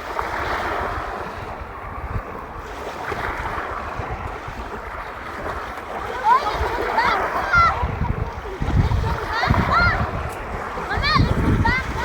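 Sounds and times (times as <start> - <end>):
sea water and surf: 0.0 - 12.0
wind buffeting microphone: 0.0 - 12.0.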